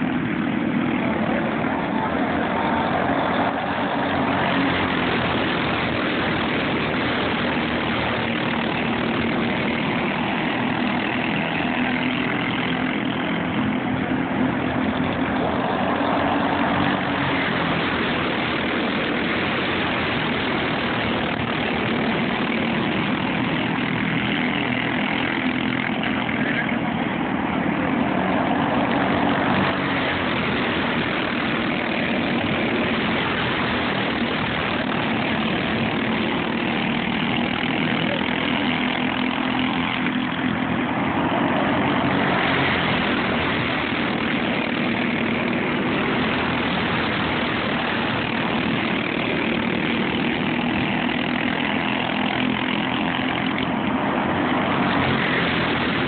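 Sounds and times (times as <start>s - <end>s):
go-kart engines racing: 0.0s - 56.0s.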